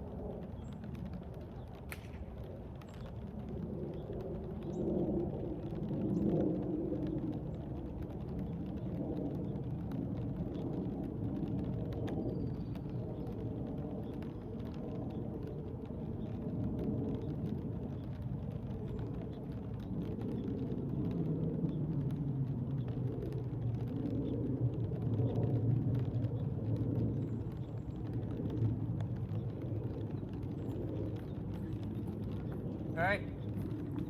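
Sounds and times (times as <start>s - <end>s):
light rain ticking: 0.0s - 34.0s.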